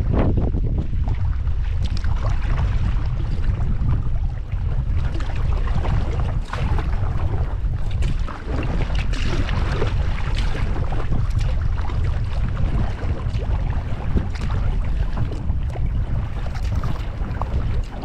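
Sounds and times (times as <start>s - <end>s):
paddle splashes: 0.0s - 18.0s
waves slapping: 0.0s - 18.0s
wind buffeting microphone: 0.0s - 18.0s.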